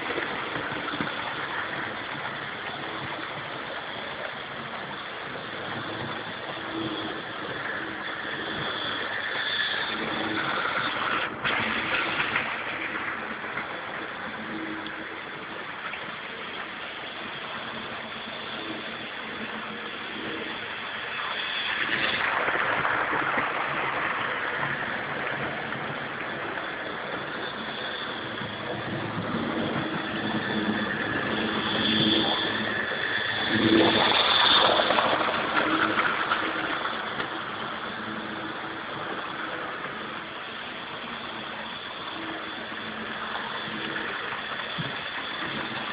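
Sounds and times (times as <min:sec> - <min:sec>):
model train running on track: 0:00.0 - 0:45.9
wheels rumbling on rails: 0:00.0 - 0:45.9.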